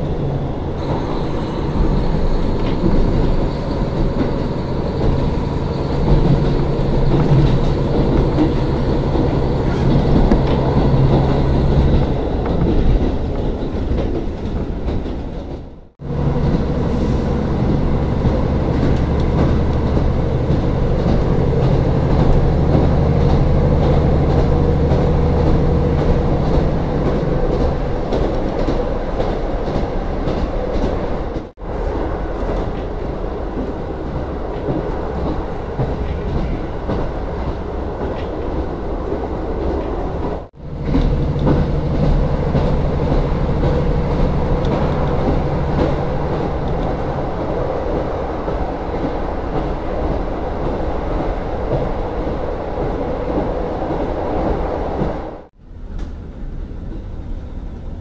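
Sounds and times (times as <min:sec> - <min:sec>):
wheels rumbling on rails: 0:00.0 - 0:58.0.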